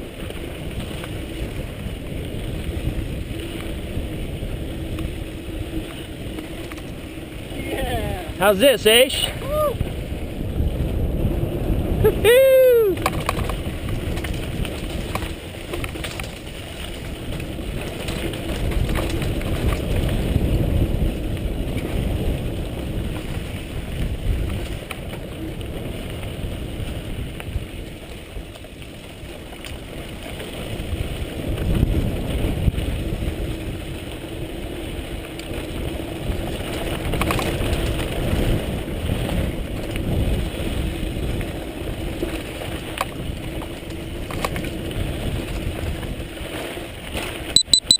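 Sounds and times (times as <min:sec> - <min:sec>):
wind buffeting microphone: 0:00.0 - 0:47.6
rumble of riding on rough trail: 0:00.0 - 0:47.9.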